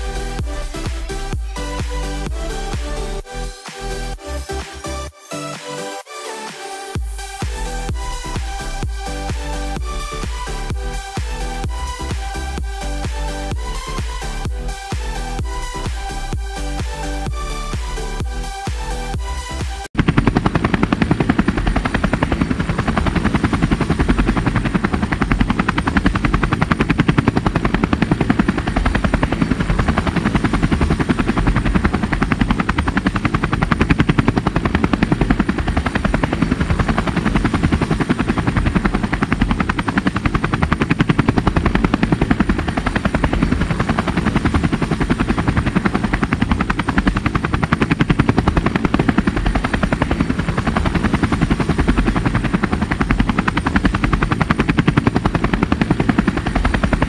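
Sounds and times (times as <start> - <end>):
helicopter rotor chopping: 0.0 - 57.0.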